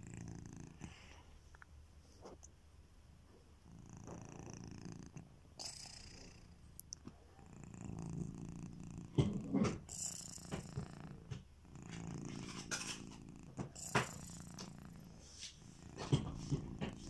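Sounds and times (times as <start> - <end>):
cat snoring: 0.0 - 1.3, 3.6 - 6.7, 7.3 - 17.0.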